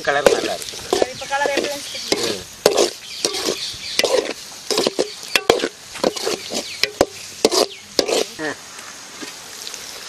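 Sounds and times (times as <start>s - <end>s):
metal ladle scraping pan: 0.0s - 8.4s
meat frying: 0.0s - 10.0s.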